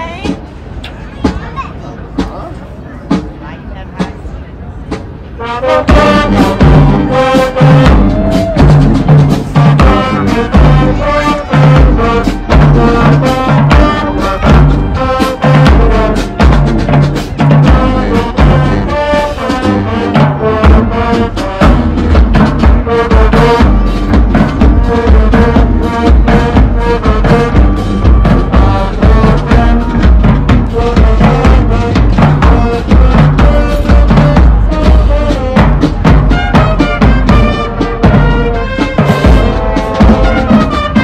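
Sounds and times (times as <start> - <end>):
drums steady beat: 0.0 - 41.0
marching band brass: 0.0 - 41.0.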